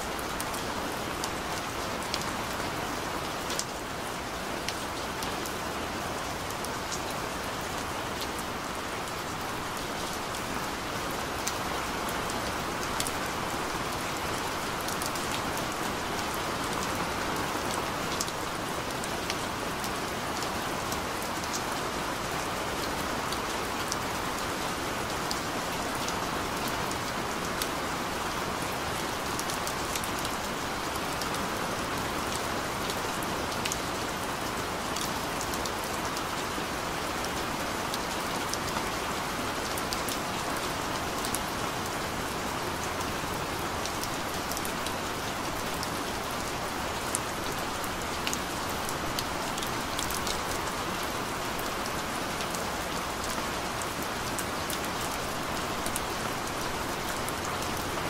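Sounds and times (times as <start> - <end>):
gentle steady rain: 0.0 - 58.0.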